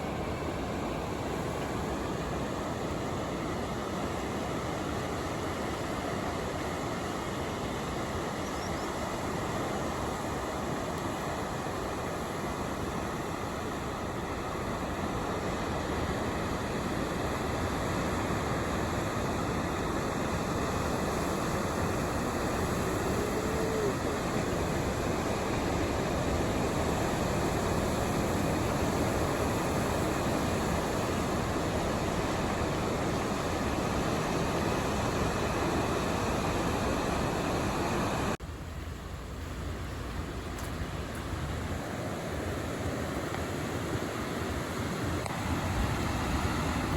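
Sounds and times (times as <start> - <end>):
surf breaking roar: 0.0 - 46.9.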